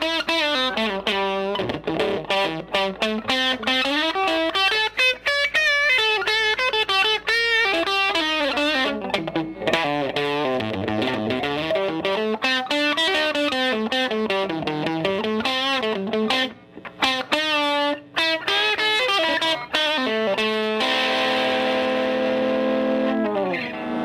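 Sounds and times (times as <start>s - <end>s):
electric guitar lead line: 0.0s - 24.0s.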